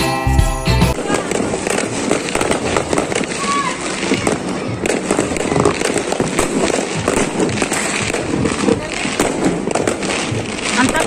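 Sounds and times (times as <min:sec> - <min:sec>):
fireworks bangs and crackles: 0:00.9 - 0:11.0.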